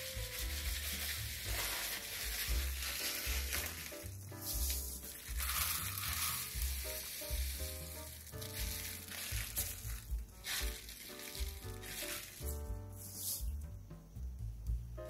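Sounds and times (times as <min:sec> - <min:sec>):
sugar pouring into plastic cup: 0:00.0 - 0:13.4
background music with bass beat: 0:00.0 - 0:15.0.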